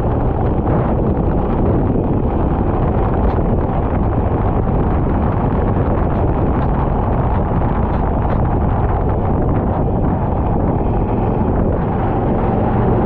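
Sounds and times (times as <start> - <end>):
wind buffeting microphone: 0.0 - 13.0
kart engine: 2.2 - 13.0.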